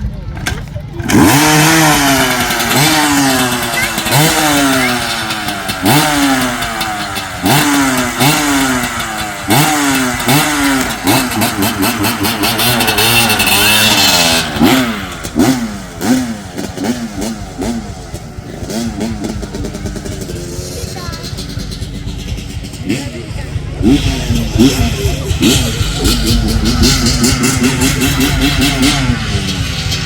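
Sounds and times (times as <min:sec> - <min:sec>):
motocross bike engine blips: 0:00.0 - 0:30.0.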